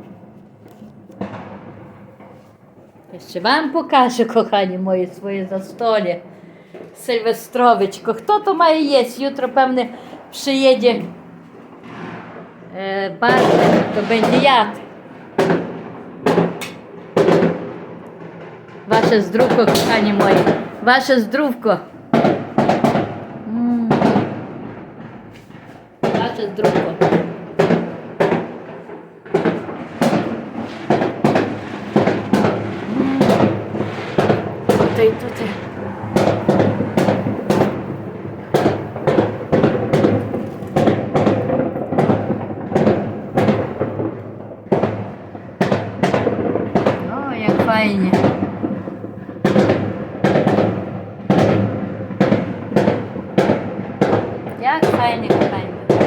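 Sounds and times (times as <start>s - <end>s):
fireworks exploding: 0.0s - 56.0s.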